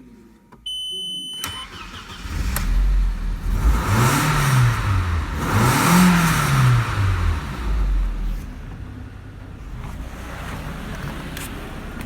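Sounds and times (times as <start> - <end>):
car engine revving: 1.6 - 12.0.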